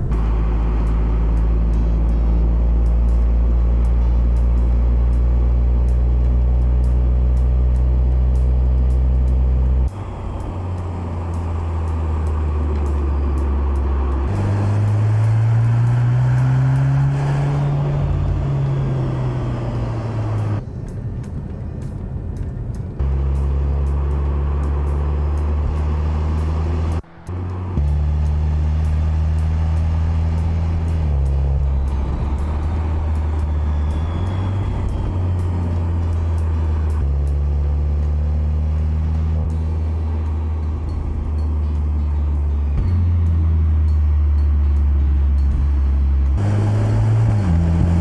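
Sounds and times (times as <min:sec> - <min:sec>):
car engine revving: 0:00.0 - 0:20.6, 0:23.0 - 0:48.0.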